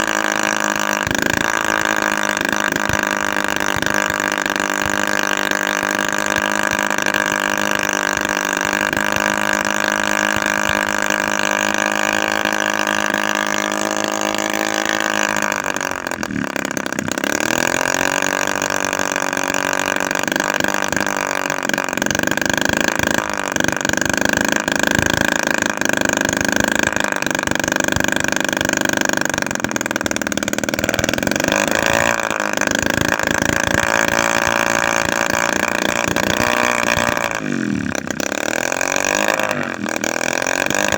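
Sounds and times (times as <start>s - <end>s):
small two-stroke engine running: 0.0s - 40.9s.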